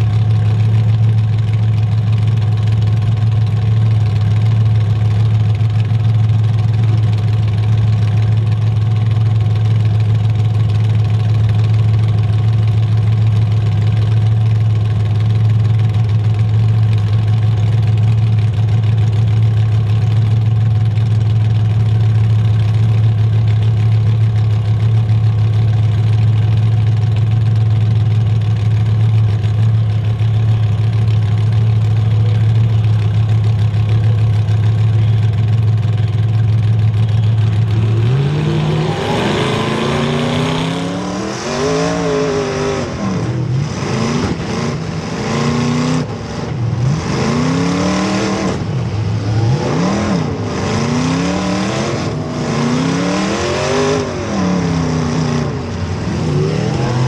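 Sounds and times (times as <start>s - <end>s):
car engine running steady: 0.0s - 57.0s
car engines revving: 0.0s - 57.0s.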